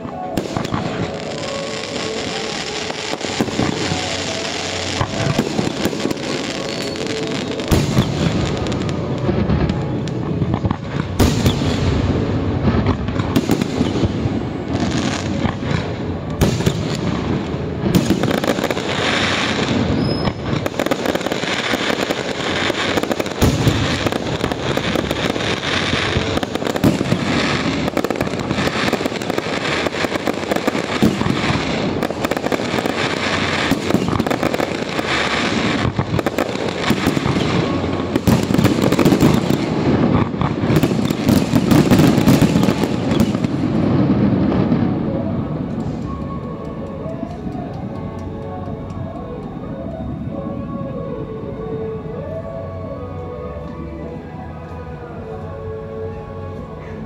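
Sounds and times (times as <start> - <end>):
fireworks bursting: 0.0 - 53.8.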